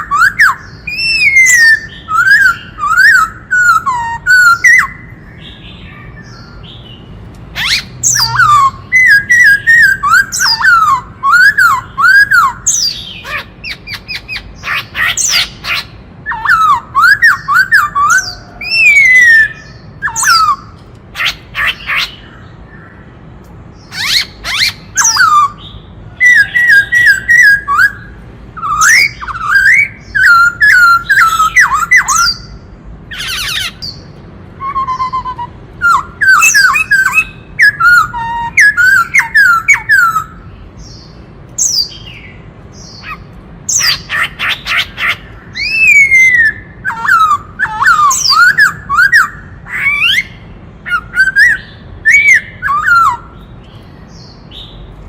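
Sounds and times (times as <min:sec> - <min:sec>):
bird singing whistled notes: 0:00.0 - 0:23.0, 0:23.7 - 0:54.9.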